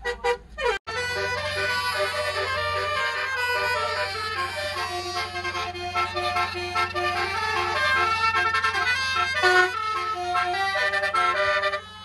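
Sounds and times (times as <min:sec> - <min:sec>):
low engine hum: 0:00.0 - 0:12.0
musical air horn tune: 0:00.1 - 0:12.0.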